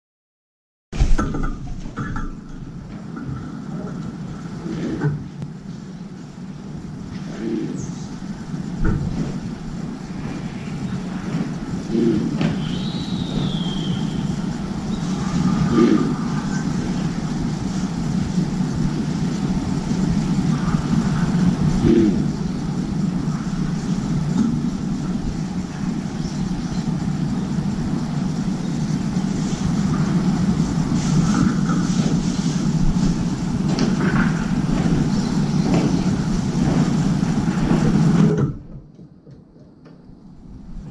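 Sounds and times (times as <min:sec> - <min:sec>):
distant city traffic hum: 0:01.0 - 0:40.9.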